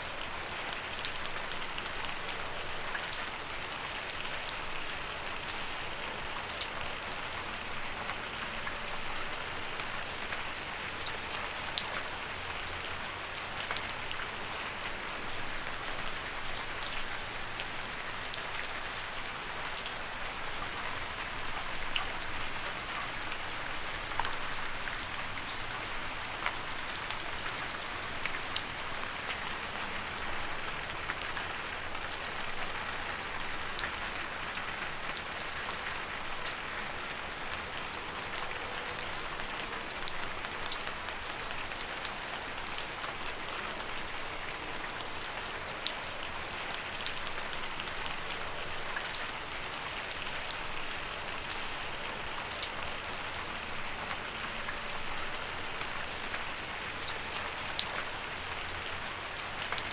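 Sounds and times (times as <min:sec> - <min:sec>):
steady rain hiss: 0:00.0 - 0:59.9
raindrops ticking on a surface: 0:00.1 - 0:59.9.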